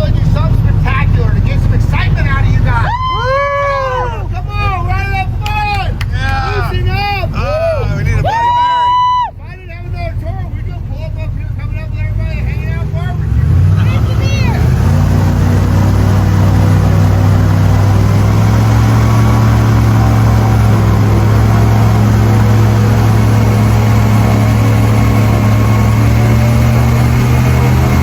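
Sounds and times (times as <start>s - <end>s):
airboat engine and propeller: 0.0s - 8.6s, 9.4s - 28.0s.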